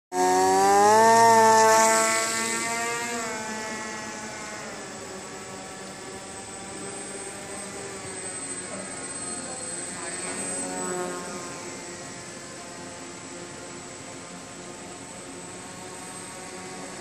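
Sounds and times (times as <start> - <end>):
electric motor and propeller whining: 0.1 - 17.0.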